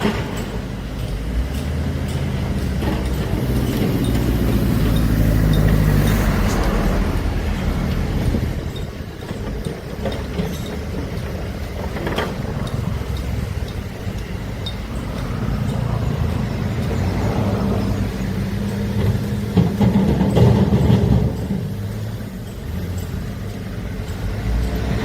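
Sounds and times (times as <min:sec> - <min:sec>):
large diesel engine under load: 0:00.0 - 0:25.0
sharp metallic knocks: 0:00.0 - 0:25.0.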